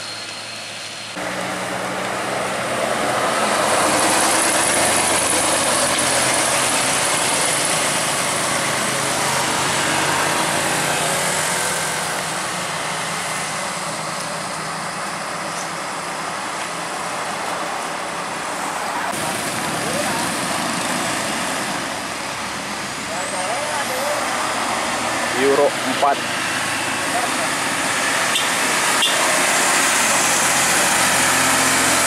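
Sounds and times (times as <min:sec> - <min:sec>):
diesel truck engine labouring: 0:00.0 - 0:32.0
motorcycles passing: 0:01.1 - 0:32.0.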